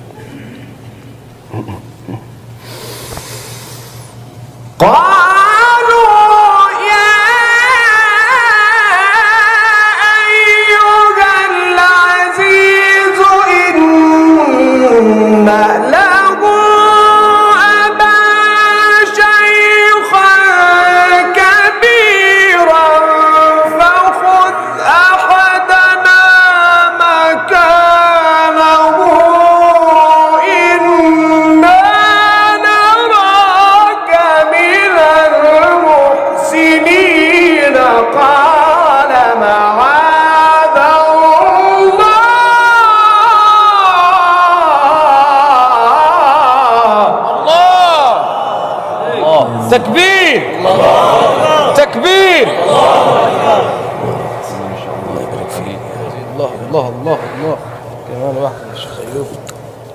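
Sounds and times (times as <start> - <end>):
man reciting in melodic chant: 4.8 - 48.2, 49.0 - 59.5.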